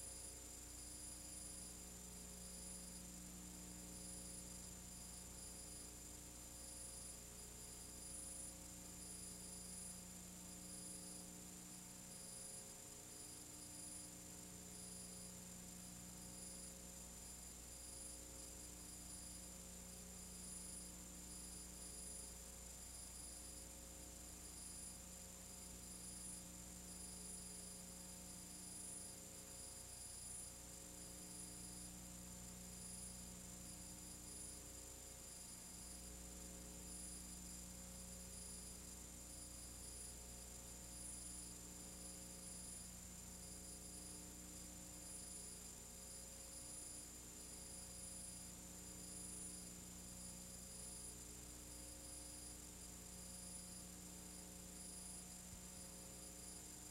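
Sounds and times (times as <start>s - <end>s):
electrical mains hum: 0.0s - 56.9s.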